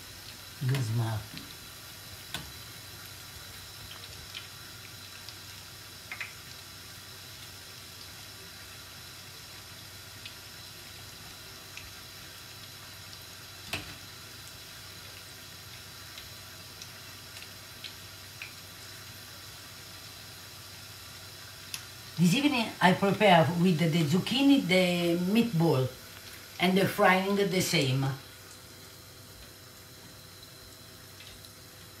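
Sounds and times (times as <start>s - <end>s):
fritters sizzling in oil: 0.0s - 32.0s.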